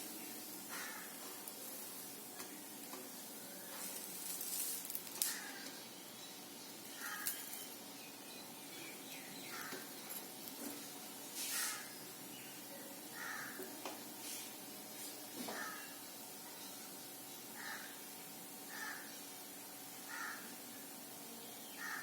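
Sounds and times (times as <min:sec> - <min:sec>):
food sizzling on a hot pan: 0:00.0 - 0:22.0.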